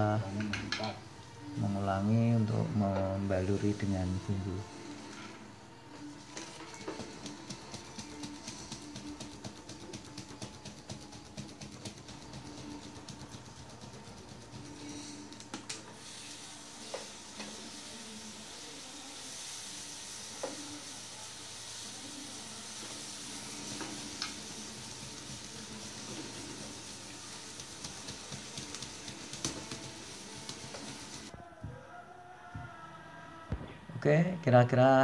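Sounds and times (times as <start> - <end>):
meat sizzling on charcoal: 0.0 - 31.3.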